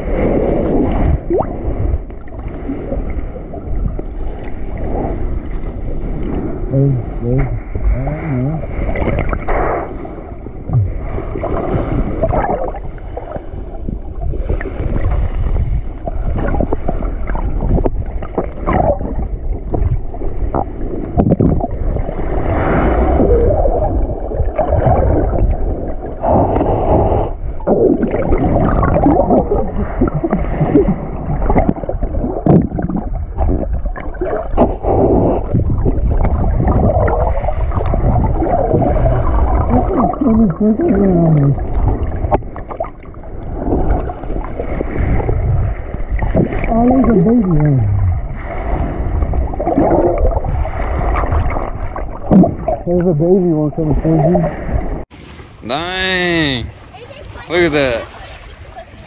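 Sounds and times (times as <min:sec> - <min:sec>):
low rumble of water underwater: 0:00.0 - 0:59.0
water gurgling and bubbling: 0:00.0 - 0:59.0.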